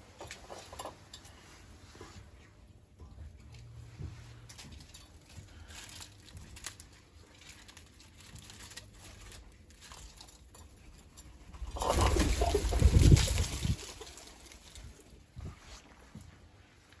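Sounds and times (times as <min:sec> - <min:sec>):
rustling and light clicks: 0:00.0 - 0:17.0.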